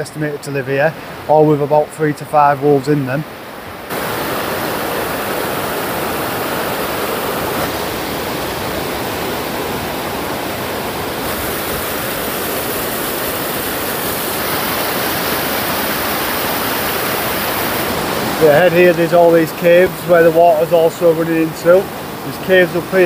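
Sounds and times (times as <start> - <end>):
waterfall rushing: 3.3 - 23.0.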